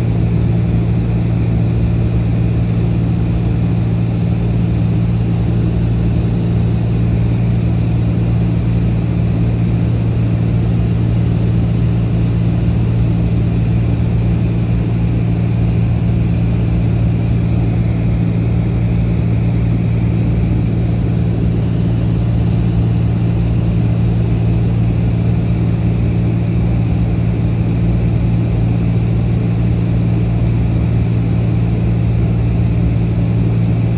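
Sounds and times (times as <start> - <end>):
aircraft engine drone: 0.0 - 33.9.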